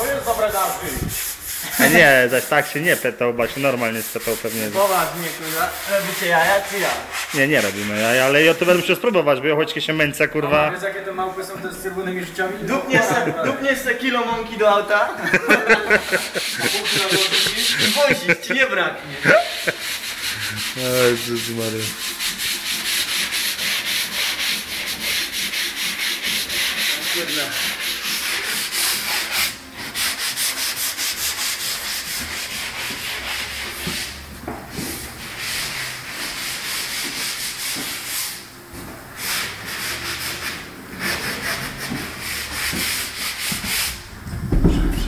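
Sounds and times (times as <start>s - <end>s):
sandpaper rubbing wood: 0.0s - 9.1s, 15.3s - 18.5s, 19.1s - 38.5s, 39.2s - 45.0s.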